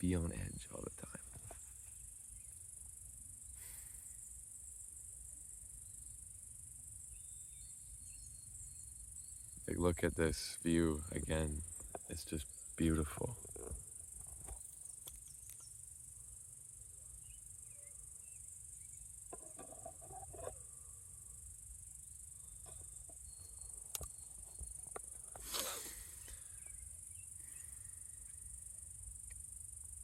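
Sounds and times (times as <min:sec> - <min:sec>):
insects chorus: 0:00.0 - 0:30.0.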